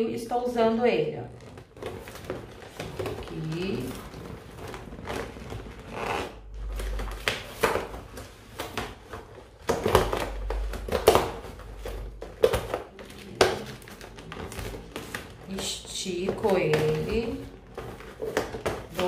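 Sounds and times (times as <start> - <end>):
balloons rubbing and rustling: 1.2 - 19.0.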